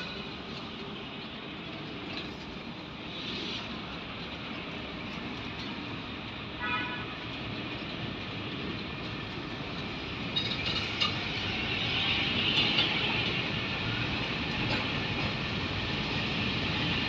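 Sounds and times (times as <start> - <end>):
train running on rails: 0.0 - 17.0.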